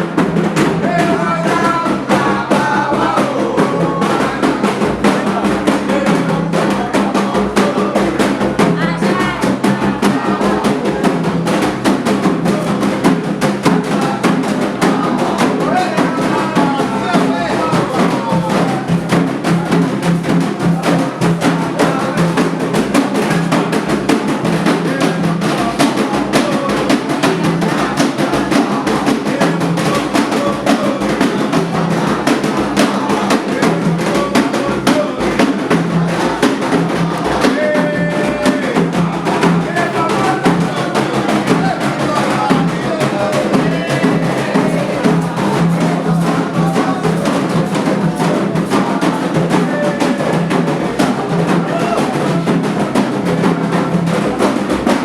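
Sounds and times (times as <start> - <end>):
fast hand drumming: 0.0 - 55.0.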